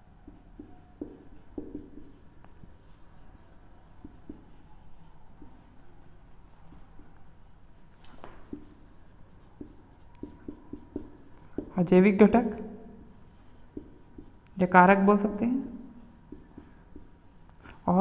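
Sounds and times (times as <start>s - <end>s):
marker scratching on whiteboard: 0.3s - 18.0s.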